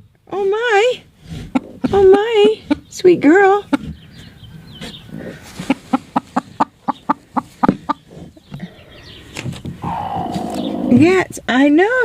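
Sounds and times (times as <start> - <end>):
hen clucking: 1.3 - 11.3.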